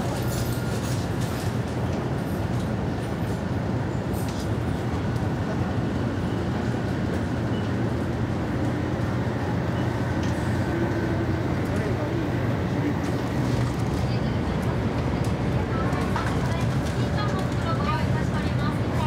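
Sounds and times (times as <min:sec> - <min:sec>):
train low rumble from inside: 0:00.0 - 0:19.0.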